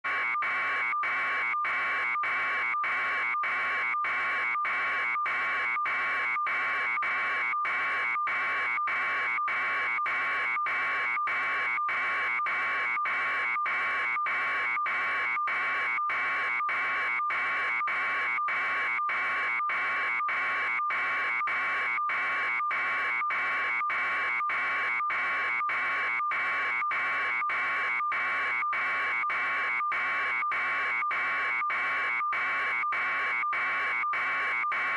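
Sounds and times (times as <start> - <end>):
harsh electronic buzzer pulses: 0.0 - 34.9.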